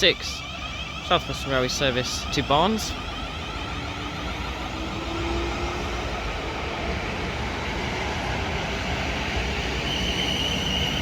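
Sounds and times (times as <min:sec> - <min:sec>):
high steady whine: 0:00.0 - 0:11.0
train rumbling on rails: 0:00.0 - 0:11.0.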